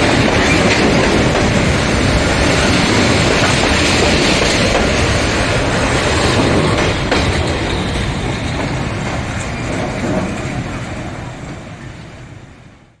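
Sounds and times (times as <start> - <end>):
train passing on rails: 0.0 - 13.0.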